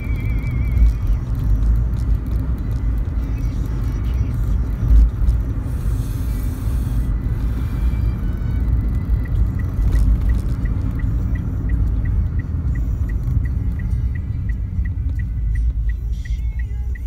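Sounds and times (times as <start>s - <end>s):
car engine and tyre rumble: 0.0s - 17.0s
turn signal ticking: 0.0s - 17.0s.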